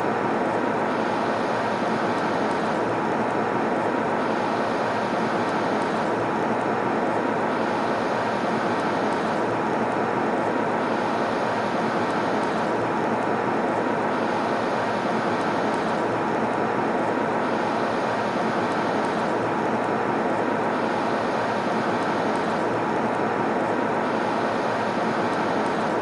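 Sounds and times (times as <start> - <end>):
airliner cabin engine rush: 0.0 - 12.9, 13.6 - 26.0.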